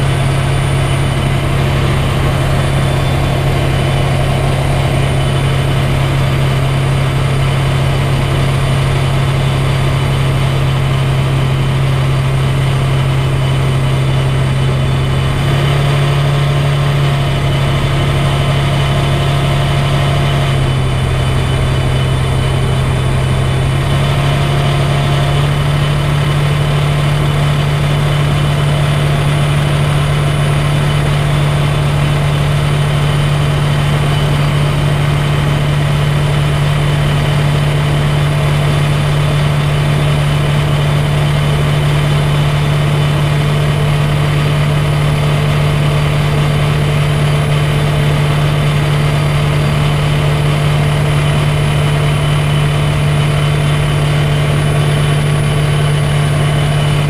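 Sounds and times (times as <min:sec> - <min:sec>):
aircraft engine and propeller hum: 0:00.0 - 0:57.0.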